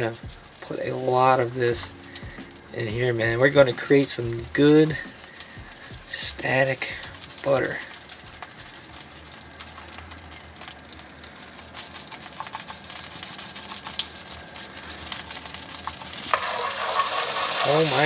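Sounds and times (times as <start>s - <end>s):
butter sizzling in frying pan: 0.0s - 18.0s.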